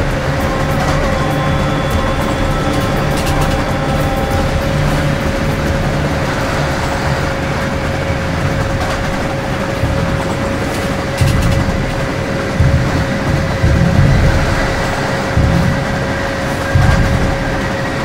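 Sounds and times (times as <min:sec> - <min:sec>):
constant tone: 0:00.0 - 0:18.0
heavy low rumbles: 0:00.0 - 0:18.0
train rushing on rails: 0:00.0 - 0:18.0.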